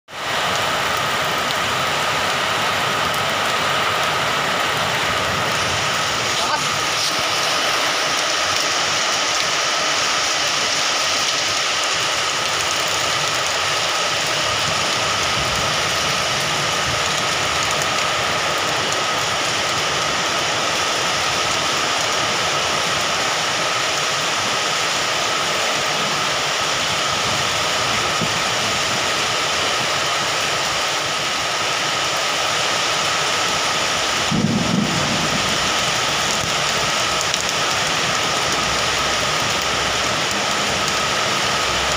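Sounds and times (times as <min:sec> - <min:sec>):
heavy rain on wet paving: 0:00.1 - 0:41.9.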